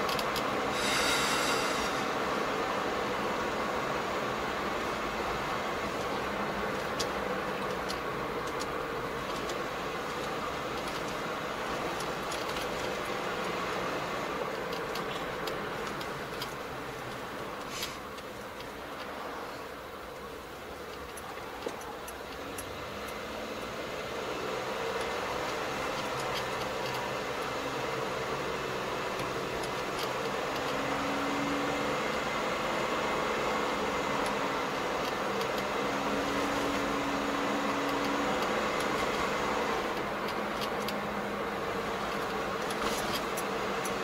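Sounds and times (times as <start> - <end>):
car road and engine noise: 0.0 - 44.0.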